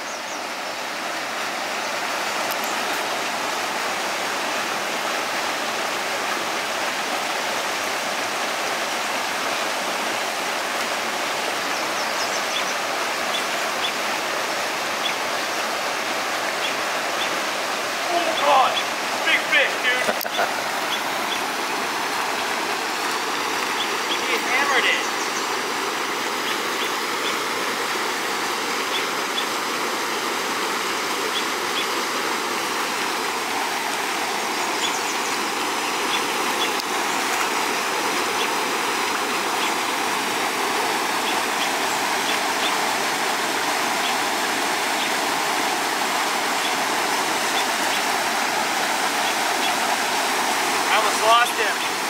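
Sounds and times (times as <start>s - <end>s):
water rushing from dam outlet: 0.0s - 52.0s.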